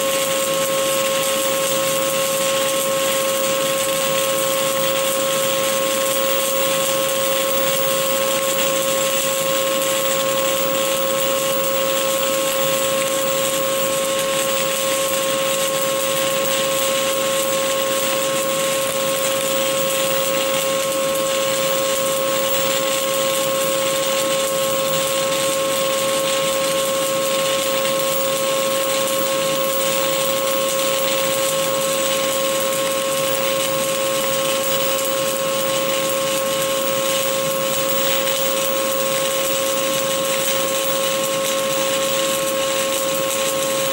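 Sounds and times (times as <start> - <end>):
welding arc hissing: 0.0 - 43.9.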